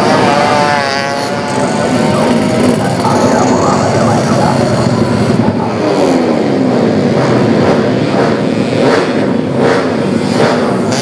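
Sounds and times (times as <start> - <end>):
scooter engines racing: 0.0 - 11.0.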